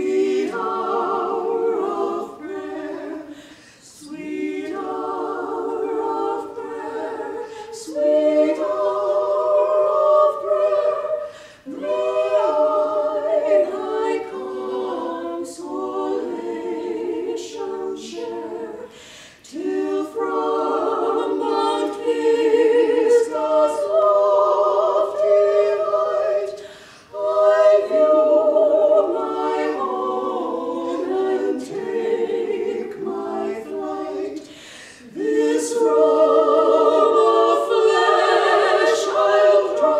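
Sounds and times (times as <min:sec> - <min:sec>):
women singing in harmony: 0:00.0 - 0:39.9.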